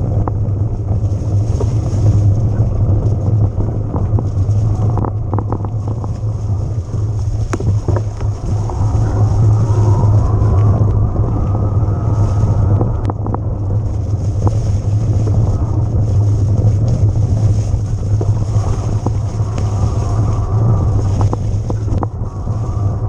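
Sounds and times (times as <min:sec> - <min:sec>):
bike rumbling over rough ground: 0:00.0 - 0:23.0
wind buffeting microphone: 0:00.0 - 0:23.0.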